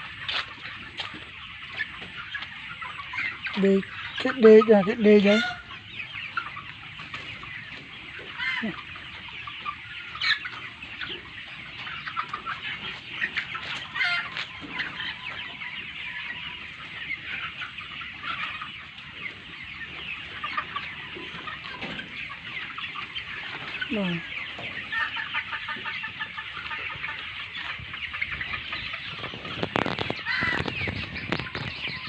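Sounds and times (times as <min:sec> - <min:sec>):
chickens clucking and calling: 0:00.0 - 0:32.0.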